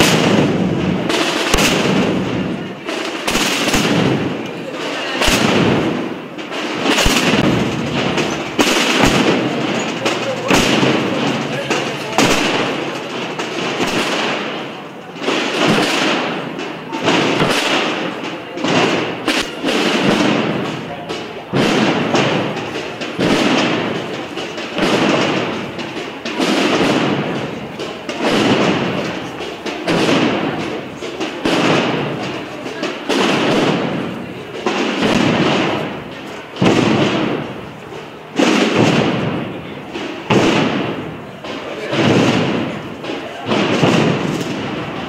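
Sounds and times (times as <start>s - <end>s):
snare and bass drums marching: 0.0s - 45.0s.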